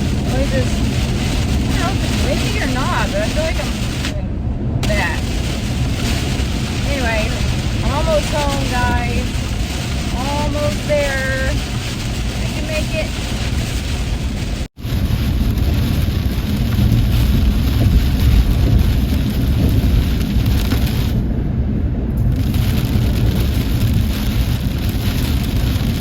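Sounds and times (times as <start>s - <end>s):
deep rumble: 0.0s - 26.0s
heavy rain on a car: 0.0s - 26.0s.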